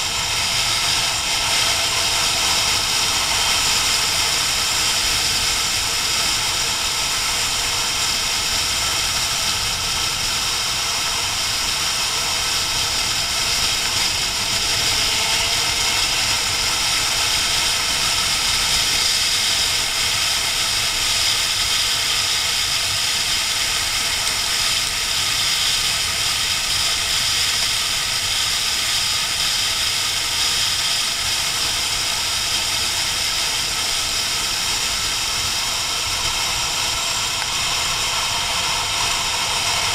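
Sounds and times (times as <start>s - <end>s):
motorcycle engine running: 0.0s - 39.9s
rushing wind and road noise: 0.0s - 39.9s.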